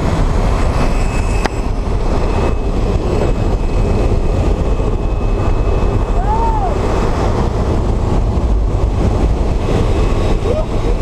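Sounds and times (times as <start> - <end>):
faint steady whine: 0.0 - 11.0
propeller plane engine drone: 0.0 - 11.0
rushing air: 0.0 - 11.0.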